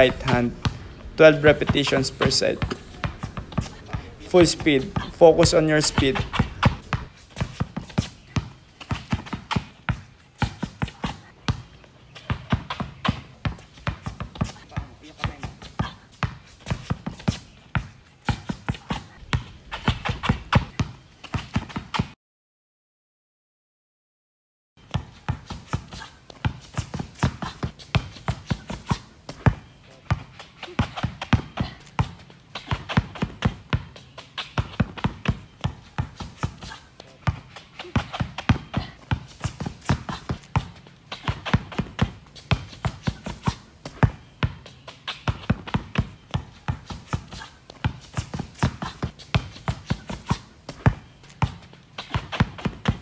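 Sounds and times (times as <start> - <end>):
basketball bouncing on concrete: 0.0 - 22.2, 24.8 - 53.0.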